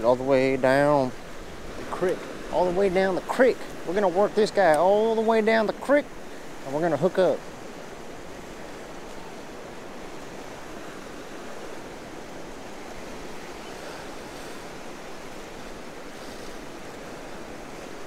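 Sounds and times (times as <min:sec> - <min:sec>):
waves washing against rocks: 0:00.0 - 0:18.0.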